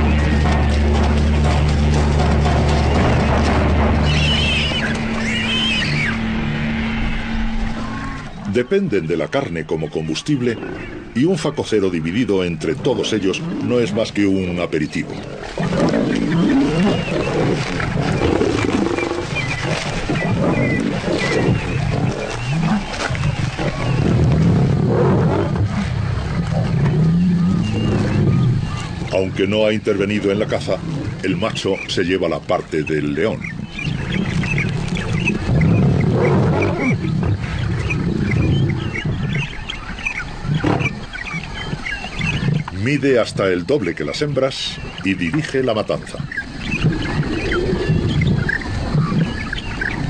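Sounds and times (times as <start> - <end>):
lions growling: 0.0 - 50.0.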